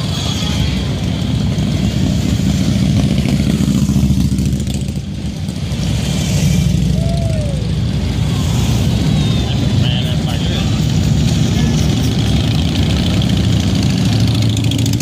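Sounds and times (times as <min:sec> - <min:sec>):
motorcycles rumbling past: 0:00.0 - 0:15.0.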